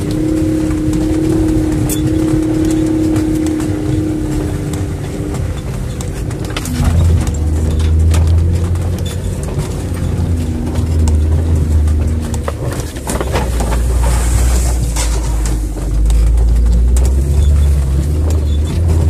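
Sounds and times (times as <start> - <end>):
branches scraping windshield: 0.0 - 19.0
car engine under load: 0.0 - 19.0
knocks and rattles: 0.0 - 19.0.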